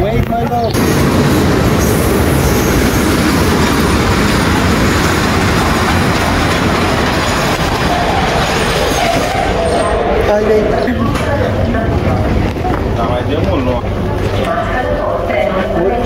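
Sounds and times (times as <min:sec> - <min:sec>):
train coaches rumbling past: 0:00.6 - 0:16.0.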